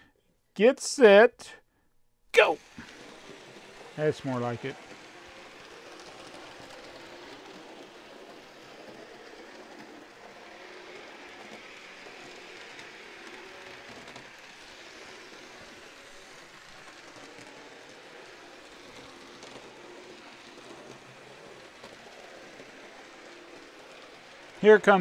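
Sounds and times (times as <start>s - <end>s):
model trains rolling on track: 2.6s - 25.0s.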